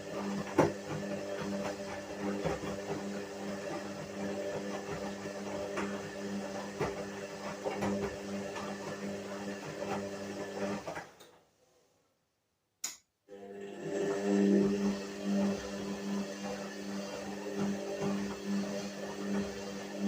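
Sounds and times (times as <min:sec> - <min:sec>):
washing machine motor hum: 0:00.0 - 0:11.2, 0:13.3 - 0:20.0.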